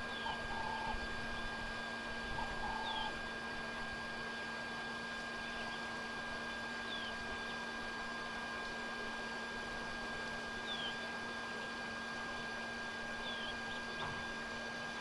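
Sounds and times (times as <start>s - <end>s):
thin hum tones: 0.0s - 15.0s.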